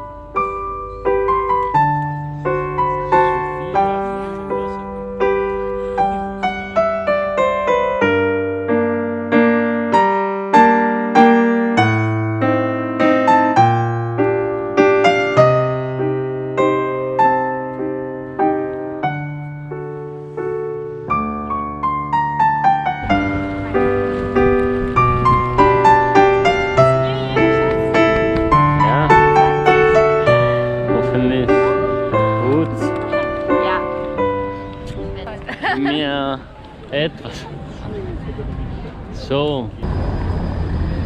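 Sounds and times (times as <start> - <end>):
piano music: 0.0 - 36.6.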